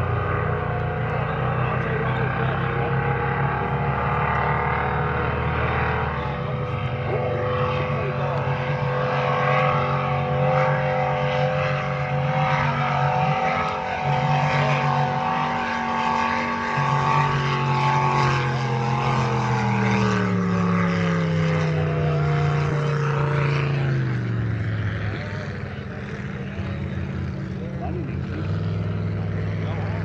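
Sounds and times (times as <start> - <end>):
powerboat engines droning: 0.0 - 30.0.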